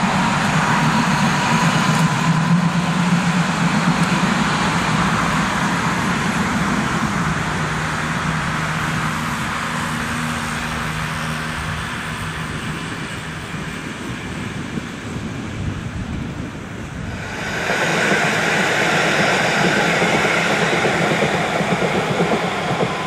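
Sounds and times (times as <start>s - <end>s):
road traffic passing: 0.0s - 23.0s
tram passing: 0.0s - 23.0s.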